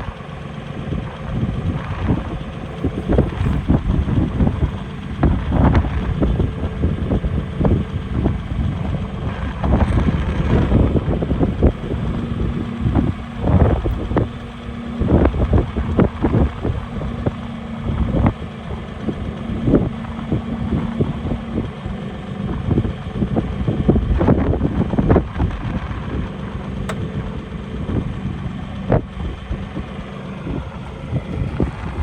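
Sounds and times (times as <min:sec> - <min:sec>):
gusty bursts of noise: 0:00.0 - 0:32.0
tractor engine idling: 0:00.0 - 0:32.0.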